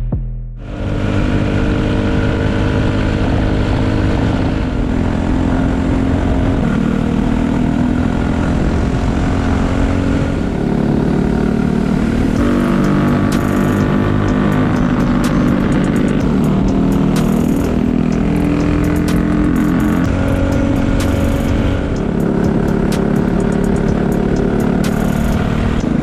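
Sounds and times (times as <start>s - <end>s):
go-kart engine running hard: 0.6s - 26.0s.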